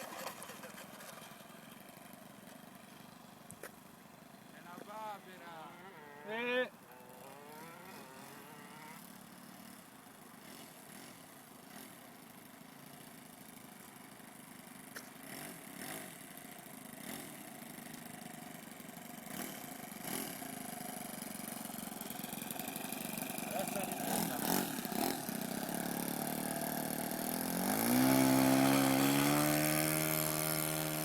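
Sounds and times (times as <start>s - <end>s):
model airplane engine running: 4.5s - 31.0s.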